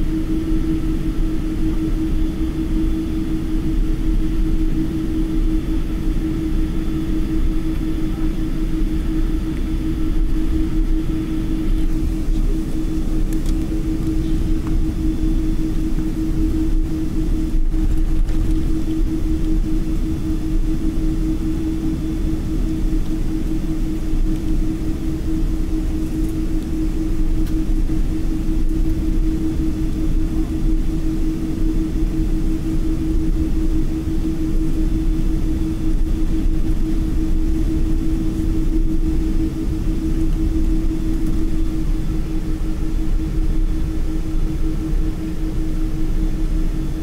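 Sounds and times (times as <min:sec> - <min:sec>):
airliner engines rumbling: 0:00.0 - 0:47.0.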